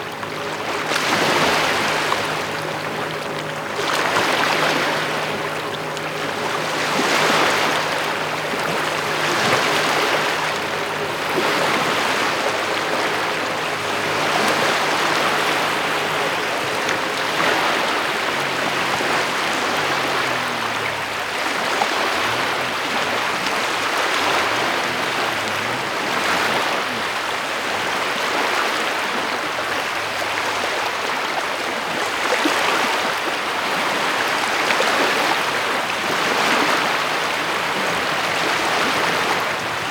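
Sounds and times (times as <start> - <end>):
rain and water washing on beach: 0.0 - 39.9.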